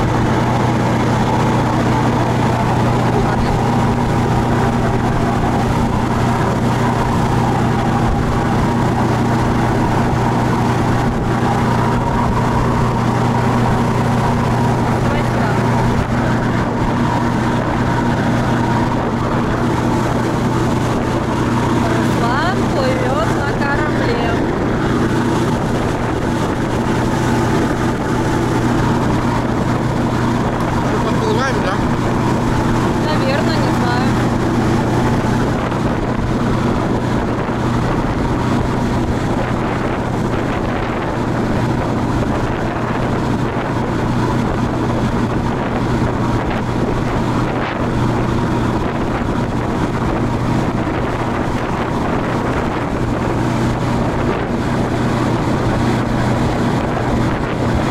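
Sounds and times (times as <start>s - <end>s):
motor boat engine humming: 0.0s - 57.9s
water rushing along hull: 0.0s - 57.9s.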